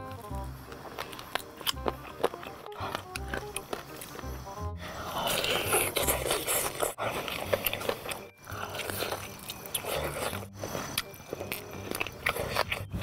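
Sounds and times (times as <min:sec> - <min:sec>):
biting and chewing fried chicken: 0:00.0 - 0:13.0.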